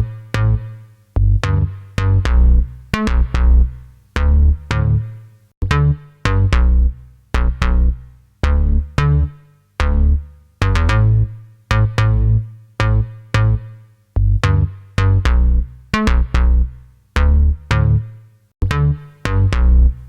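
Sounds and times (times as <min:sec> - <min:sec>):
bass playing short low notes: 0:00.0 - 0:13.6, 0:14.2 - 0:20.0.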